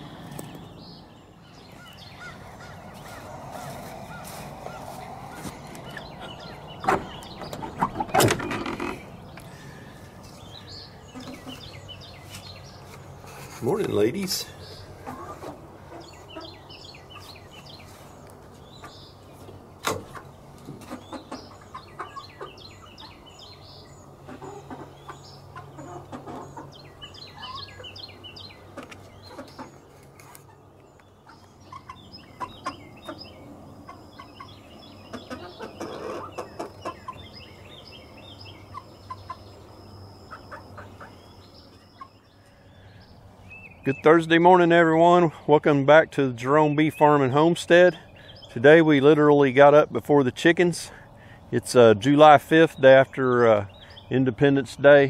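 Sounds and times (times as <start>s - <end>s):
hens clucking and chirping: 0.0s - 45.5s.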